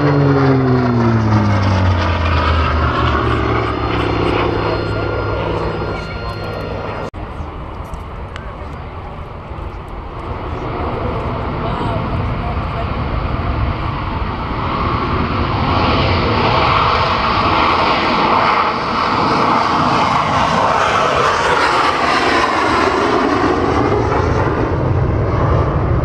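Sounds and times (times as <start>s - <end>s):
fighter jet engine roar: 0.0s - 26.0s.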